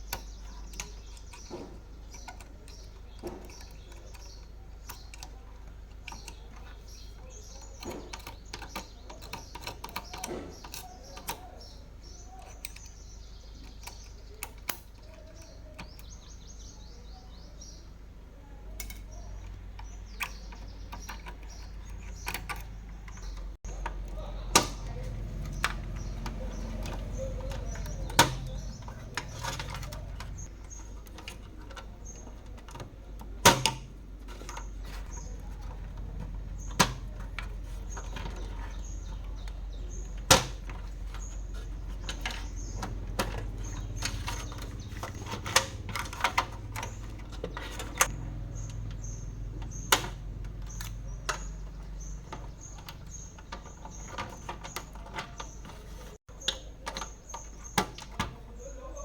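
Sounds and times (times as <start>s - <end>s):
clicks and knocks of tools: 0.0s - 11.5s, 12.3s - 16.3s, 18.8s - 58.4s.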